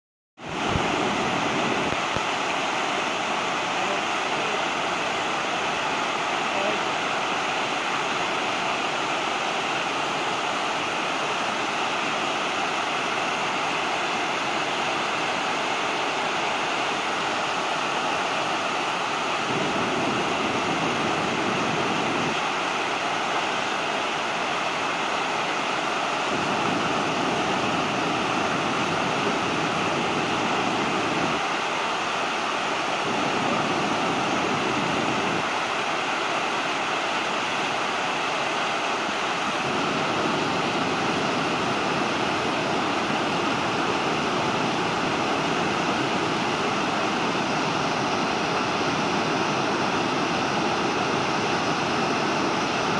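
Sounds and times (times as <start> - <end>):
river water rushing over weir: 0.4 - 52.9.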